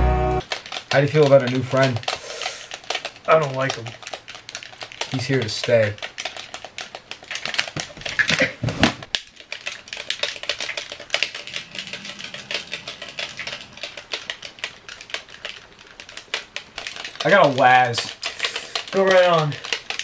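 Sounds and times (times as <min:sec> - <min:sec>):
game controller buttons clicking: 0:00.4 - 0:08.3, 0:09.1 - 0:20.0.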